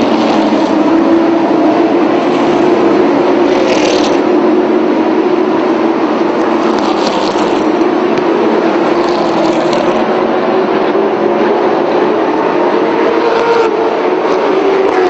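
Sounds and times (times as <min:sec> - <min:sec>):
race car engines at full speed: 0:00.0 - 0:15.0.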